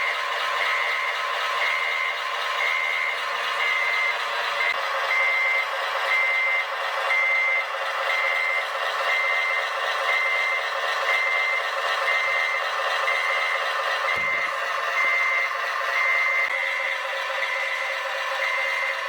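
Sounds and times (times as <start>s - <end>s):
reversing beeper: 0.0s - 19.0s.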